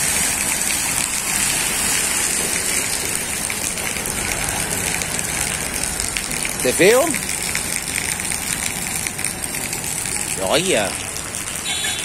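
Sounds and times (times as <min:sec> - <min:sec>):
steady rain: 0:00.0 - 0:12.0
tyres splashing through water: 0:00.0 - 0:12.0.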